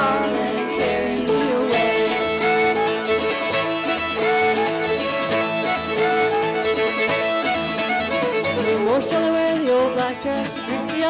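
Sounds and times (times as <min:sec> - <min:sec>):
fiddle playing: 0:00.0 - 0:11.0
plucked strings: 0:00.0 - 0:11.0
upright bass: 0:00.0 - 0:11.0.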